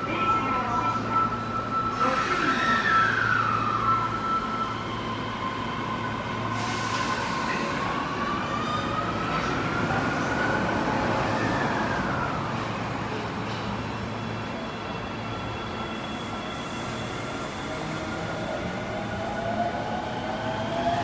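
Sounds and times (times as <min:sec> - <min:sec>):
train wheels on rails: 0:01.4 - 0:21.0.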